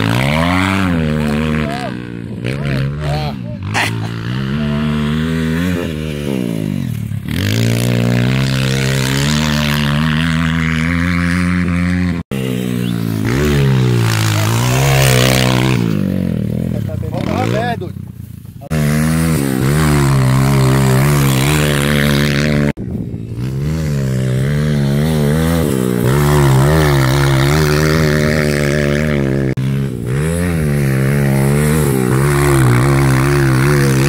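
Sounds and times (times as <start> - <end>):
dirt bike engine running hard: 0.0 - 34.0.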